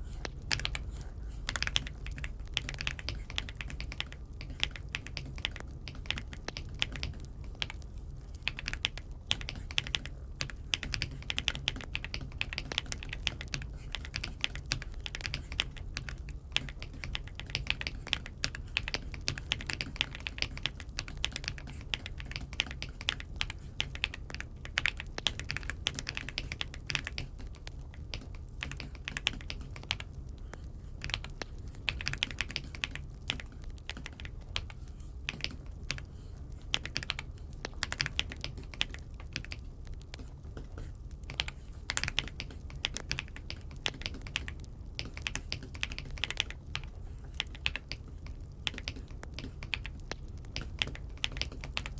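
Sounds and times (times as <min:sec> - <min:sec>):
low steady hum: 0:00.0 - 0:51.9
mechanical keyboard typing: 0:00.1 - 0:51.9.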